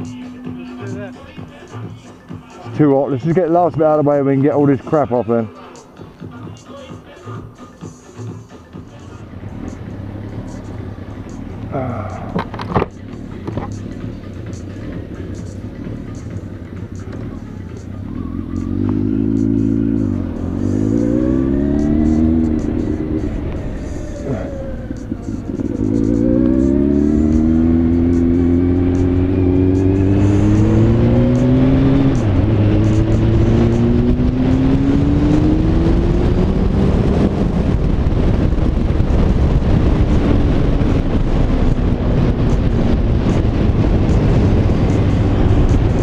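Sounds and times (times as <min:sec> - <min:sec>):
wind and road noise: 0:00.0 - 0:46.0
motorcycle engine accelerating: 0:08.7 - 0:46.0.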